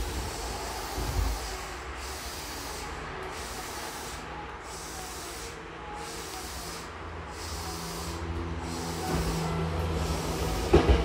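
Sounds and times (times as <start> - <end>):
steady hiss: 0.0 - 10.8
faint low hum of train: 0.0 - 11.0.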